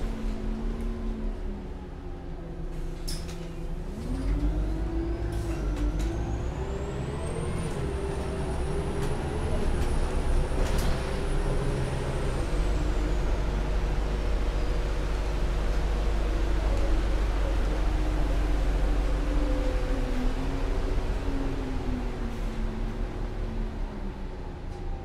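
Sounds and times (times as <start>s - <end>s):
bus engine running: 0.0s - 25.0s
rising engine whine: 3.8s - 25.0s.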